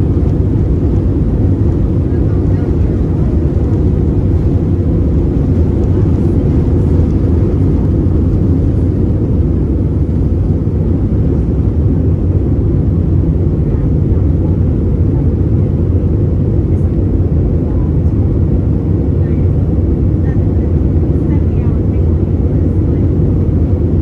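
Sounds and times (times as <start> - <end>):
aircraft cabin engine and airflow noise: 0.0 - 24.0.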